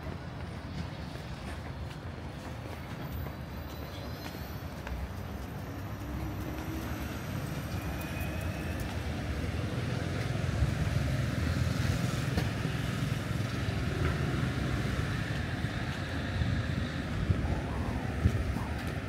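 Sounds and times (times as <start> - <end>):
road traffic rumble: 0.1 - 19.0.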